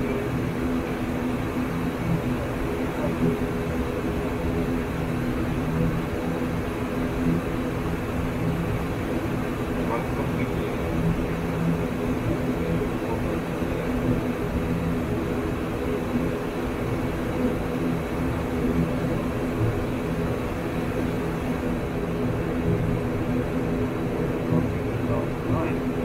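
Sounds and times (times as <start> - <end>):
turboprop engines droning: 0.0 - 26.0.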